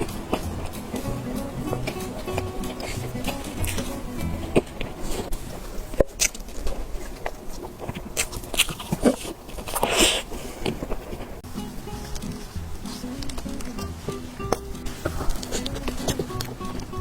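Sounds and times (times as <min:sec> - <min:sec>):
biting and chewing dessert: 0:00.0 - 0:11.4, 0:12.0 - 0:17.0.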